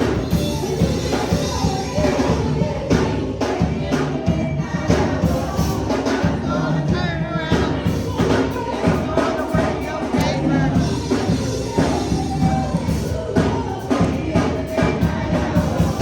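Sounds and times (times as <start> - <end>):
group of voices singing gospel: 0.0 - 16.0.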